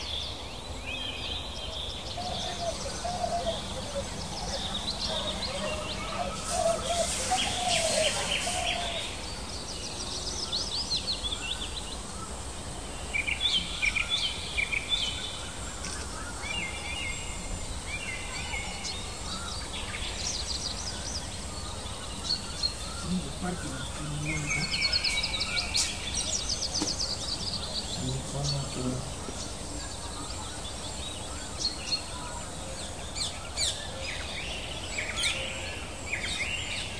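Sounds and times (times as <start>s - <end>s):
birds chirping and calling: 0.0s - 36.9s.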